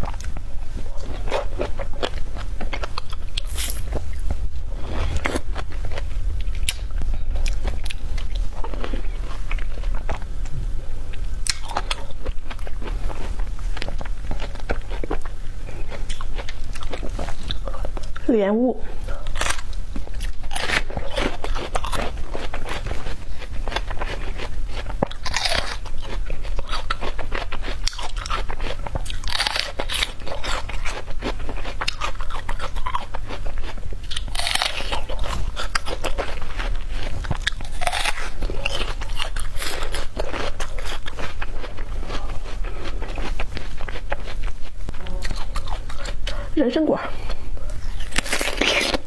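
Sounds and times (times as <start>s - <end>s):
crunchy chewing: 0.0s - 18.3s, 19.0s - 49.0s.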